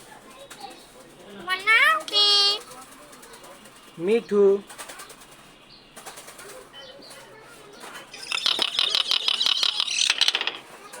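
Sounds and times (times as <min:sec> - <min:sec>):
myna chirping: 0:01.5 - 0:10.9.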